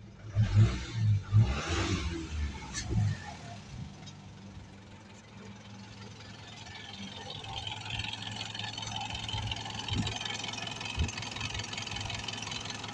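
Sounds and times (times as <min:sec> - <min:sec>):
diesel engine idling: 0:02.2 - 0:12.9.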